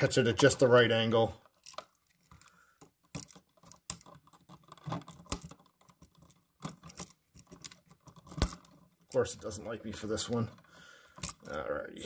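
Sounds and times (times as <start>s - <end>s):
wires rubbing and tapping: 0.0s - 12.0s
metal pick clicking and scratching: 0.2s - 11.8s.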